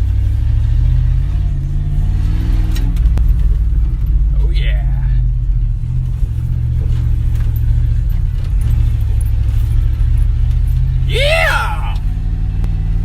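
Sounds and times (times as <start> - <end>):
pickup truck engine droning: 0.0 - 13.0.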